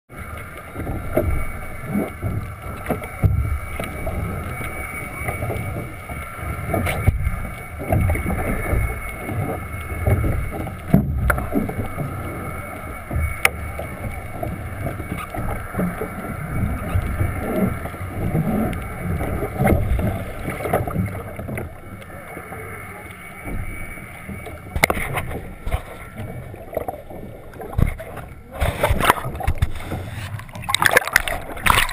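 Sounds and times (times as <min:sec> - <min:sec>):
water splashing against hull: 0:00.1 - 0:31.9.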